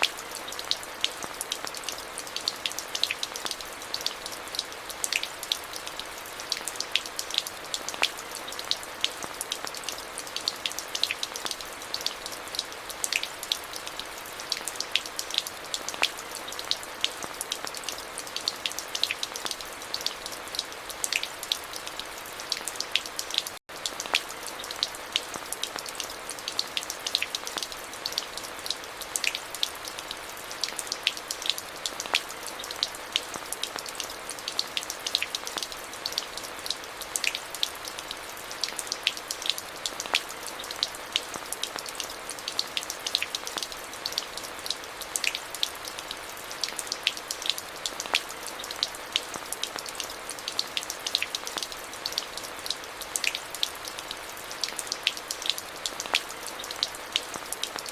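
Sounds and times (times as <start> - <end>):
rain drops ticking on surface: 0.0 - 57.9.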